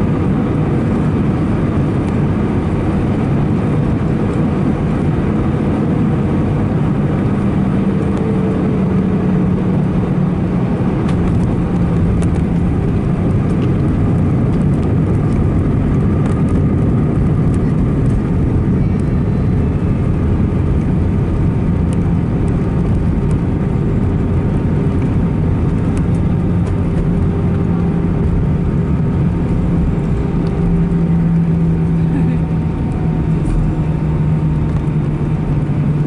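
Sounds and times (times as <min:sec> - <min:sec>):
aircraft cabin engine rumble: 0:00.0 - 0:36.0
low hum: 0:00.0 - 0:36.0.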